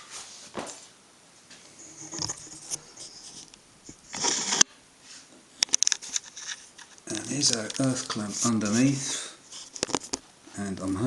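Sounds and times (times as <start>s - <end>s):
handling scrapes and rustles: 1.5s - 11.0s.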